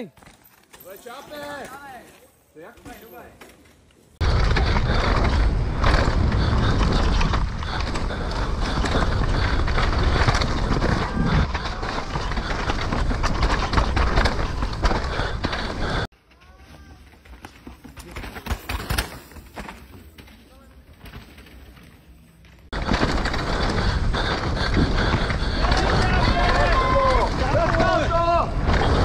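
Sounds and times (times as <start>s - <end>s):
bicycle tyre and frame rattle: 0.1s - 29.0s.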